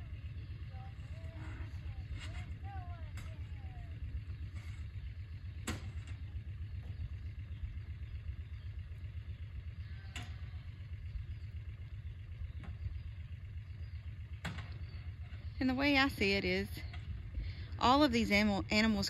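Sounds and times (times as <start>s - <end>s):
utility vehicle engine idling: 0.0s - 19.0s.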